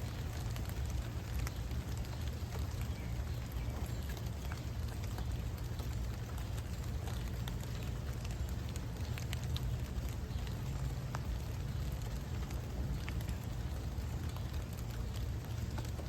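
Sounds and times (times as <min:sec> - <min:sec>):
raindrops pattering: 0:00.0 - 0:16.0.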